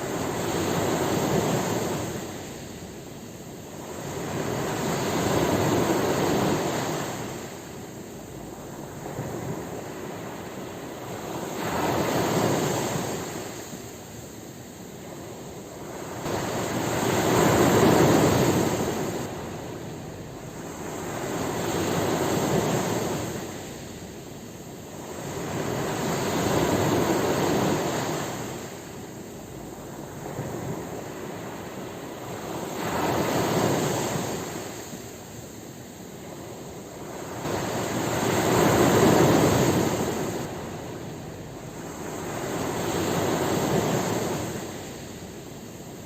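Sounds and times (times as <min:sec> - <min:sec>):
sea waves washing in: 0:00.0 - 0:46.0.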